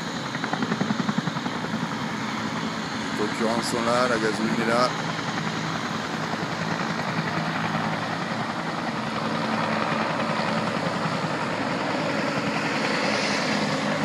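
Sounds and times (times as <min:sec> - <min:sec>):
helicopter flying past: 0:00.0 - 0:14.0.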